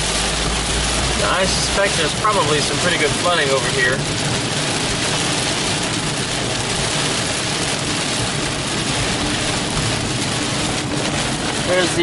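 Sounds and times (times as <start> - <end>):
heavy rain on a car: 0.0 - 12.0
tyres on a wet road: 0.0 - 12.0.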